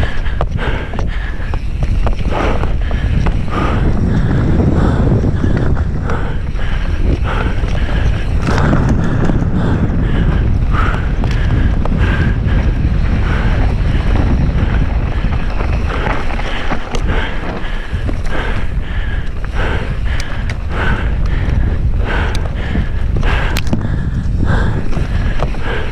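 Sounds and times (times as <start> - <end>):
bike knocks and rattles: 0.0 - 25.9
tyres rumbling over dirt: 0.0 - 25.9
wind buffeting microphone: 0.0 - 25.9.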